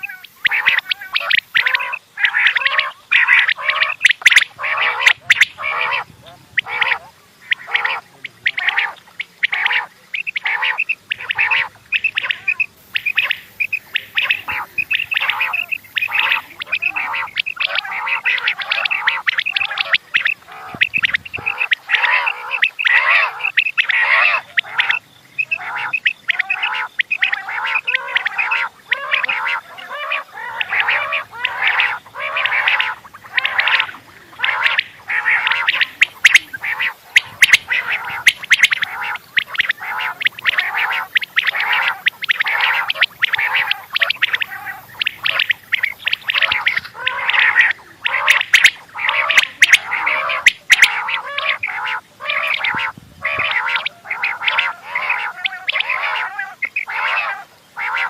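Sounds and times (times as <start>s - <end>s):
quails calling: 0.0s - 58.0s.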